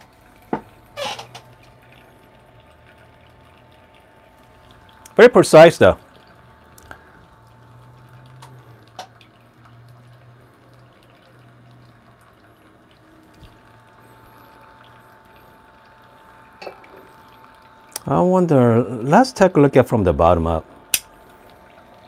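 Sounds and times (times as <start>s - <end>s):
coffee machine hum: 0.0s - 22.0s
water trickling and dripping: 0.0s - 22.0s.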